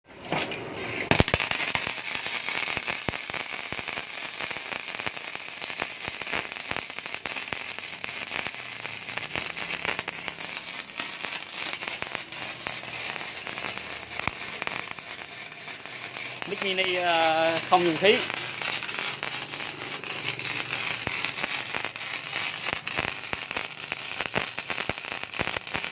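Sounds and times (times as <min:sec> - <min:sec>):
welding arc pops: 0:00.5 - 0:25.9
welding arc crackling: 0:00.8 - 0:25.9.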